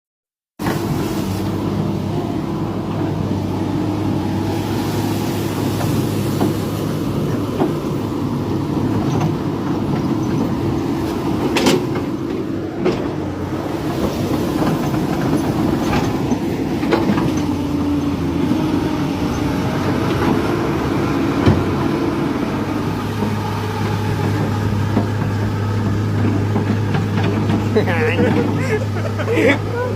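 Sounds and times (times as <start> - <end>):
diesel engine running: 0.6 - 29.9.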